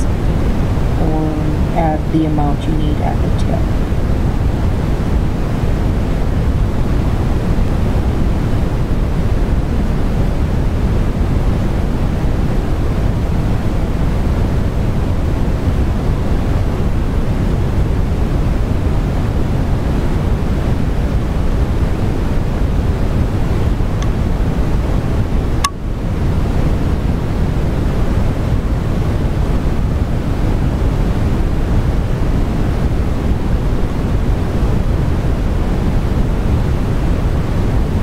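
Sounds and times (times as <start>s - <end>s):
steady rushing noise: 0.0s - 38.0s.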